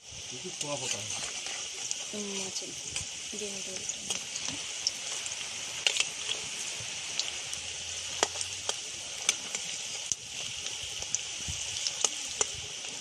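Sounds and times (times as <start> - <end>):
fritters sizzling in hot oil: 0.0 - 13.0.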